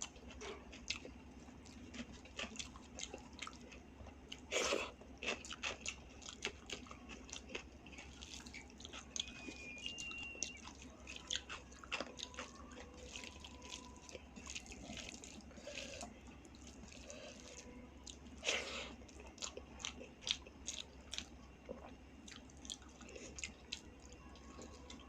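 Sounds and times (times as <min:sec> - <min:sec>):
close-miked chewing and mouth smacks: 0:00.0 - 0:25.0.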